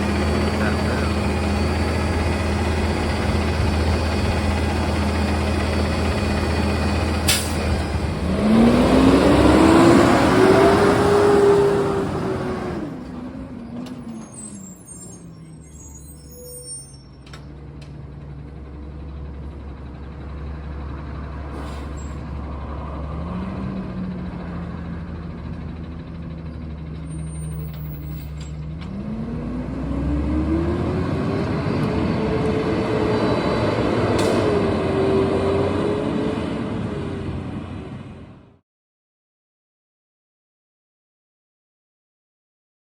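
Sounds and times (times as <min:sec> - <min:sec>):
garbage truck diesel engine: 0:00.0 - 0:38.6.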